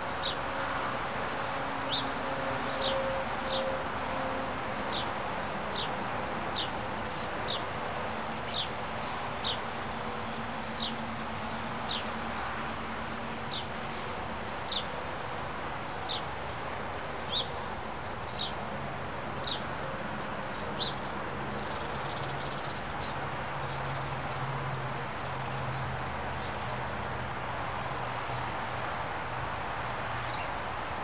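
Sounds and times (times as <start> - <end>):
rain hiss: 0.0 - 31.0.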